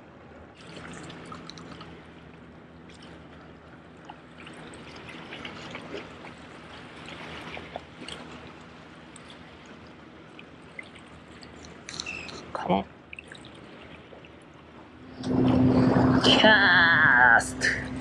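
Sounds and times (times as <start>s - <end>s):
small water splashes: 0.5s - 16.3s
seawater washing among rocks: 0.5s - 18.0s.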